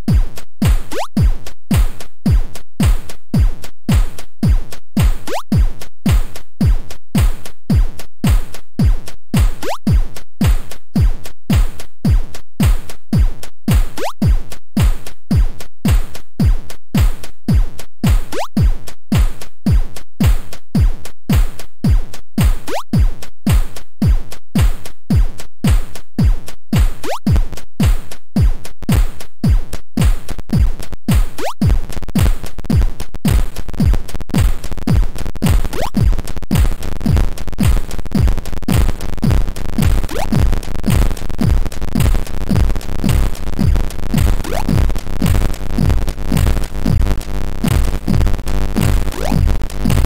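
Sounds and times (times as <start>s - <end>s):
drum machine kick drums: 0.0s - 50.0s
hi-hats and crashes: 0.1s - 17.2s, 25.7s - 50.0s.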